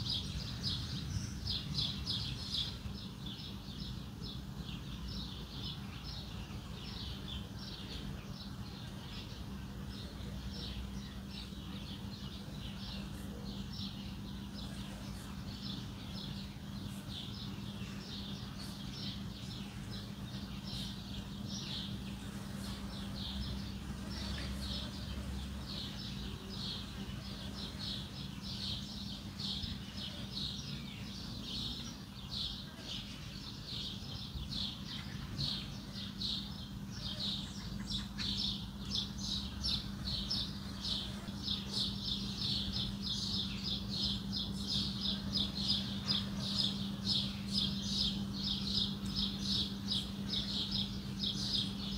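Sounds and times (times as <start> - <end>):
small birds chirping: 0.0 - 51.9
steady low hum: 0.0 - 51.9.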